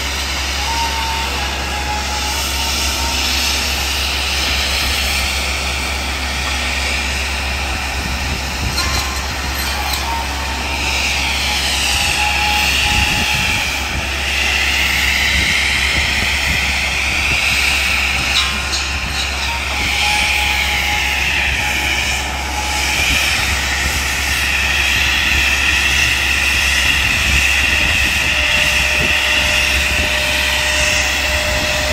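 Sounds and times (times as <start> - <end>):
tree-trimming saw machine whining: 0.0 - 31.9.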